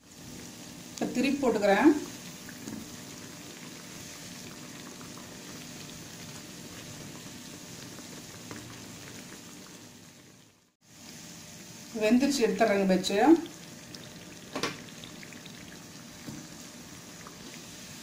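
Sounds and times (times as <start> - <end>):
oil sizzling while deep-frying: 0.0 - 18.0.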